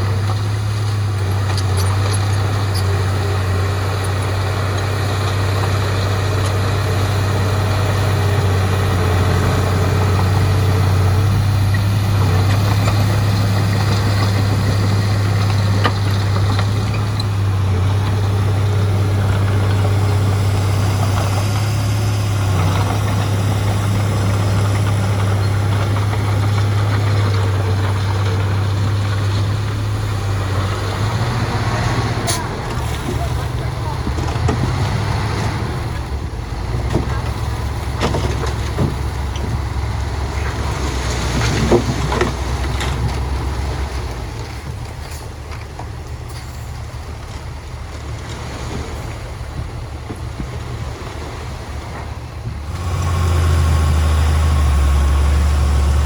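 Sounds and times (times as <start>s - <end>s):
heavy diesel engine humming: 0.0s - 56.0s.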